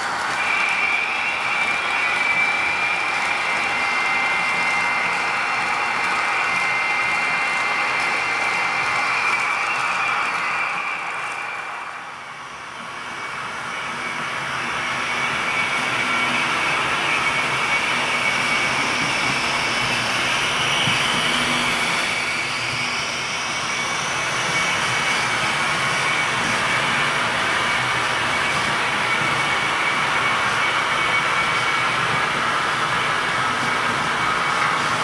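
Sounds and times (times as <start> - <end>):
model train whirring on track: 0.0 - 35.0
thin high whine: 0.0 - 35.0.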